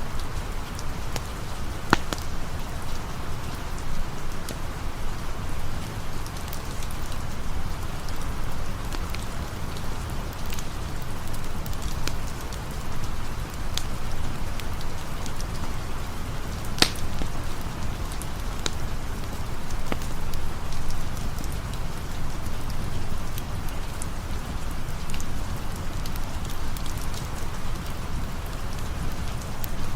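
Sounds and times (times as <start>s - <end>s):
campfire crackling: 0.0s - 29.9s
steady rain: 0.0s - 29.9s.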